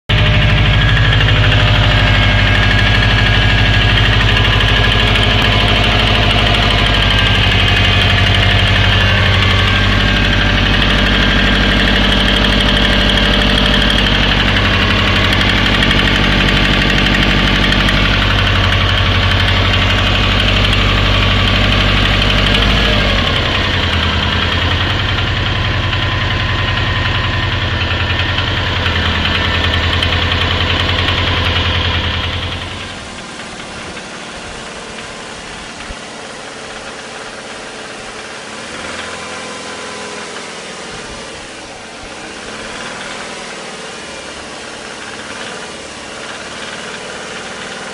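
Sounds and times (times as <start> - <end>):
fast rhythmic engine knock: 0.0 - 41.2, 42.0 - 43.8, 44.5 - 47.9
engine low rumble: 0.0 - 47.9.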